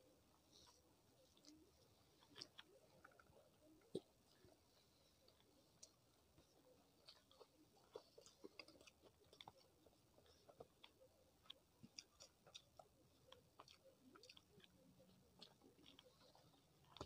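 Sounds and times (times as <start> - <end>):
person chewing food: 0.5 - 17.0.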